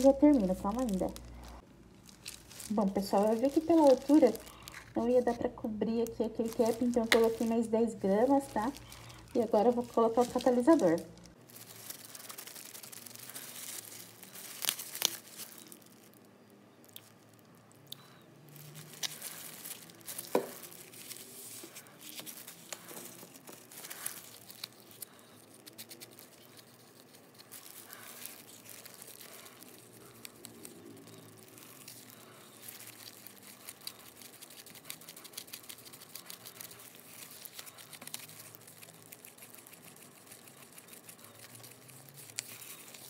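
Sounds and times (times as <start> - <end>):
rustling: 0.0 - 43.0.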